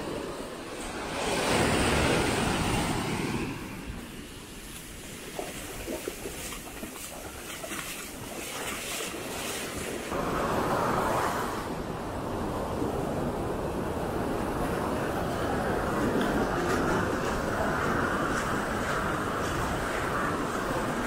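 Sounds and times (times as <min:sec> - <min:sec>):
ocean surf breaking on shore: 0:00.0 - 0:21.0
wind rumbling on microphone: 0:00.0 - 0:21.0.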